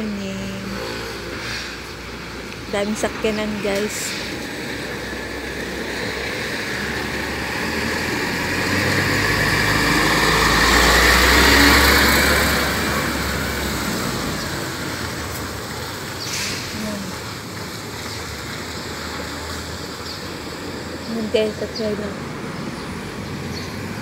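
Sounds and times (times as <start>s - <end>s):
truck driving past: 0.0s - 24.0s.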